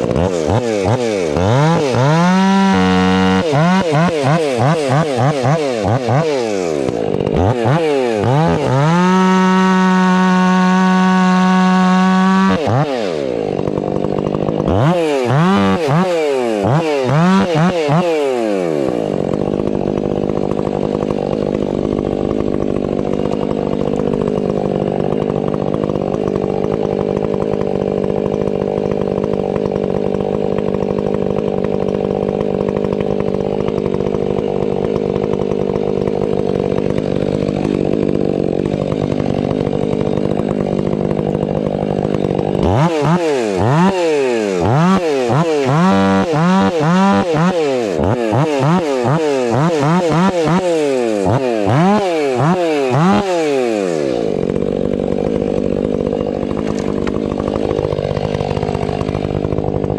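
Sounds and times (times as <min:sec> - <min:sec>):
chainsaw cutting through wood: 0:00.0 - 0:59.9
chainsaw revving: 0:00.0 - 0:59.9.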